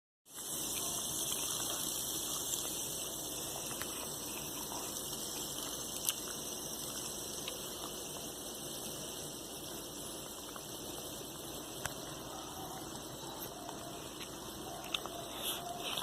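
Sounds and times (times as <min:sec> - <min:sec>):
spinner toy whirring: 0:00.3 - 0:16.0.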